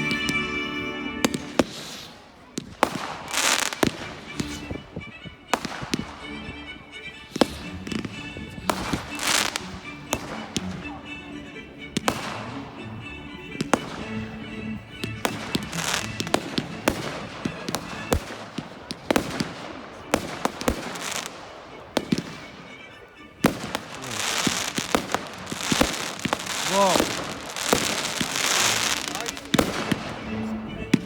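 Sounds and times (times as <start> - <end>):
fireworks banging and crackling: 0.0 - 6.6, 7.2 - 11.0, 12.0 - 12.8, 13.5 - 14.2, 14.8 - 31.0.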